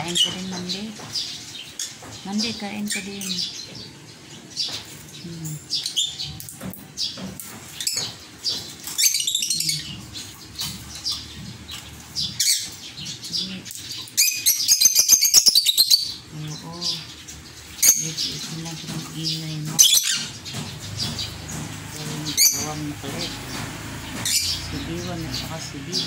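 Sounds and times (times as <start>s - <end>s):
lovebirds chirping: 0.0s - 26.0s
rapid chattering chirps: 0.0s - 26.0s.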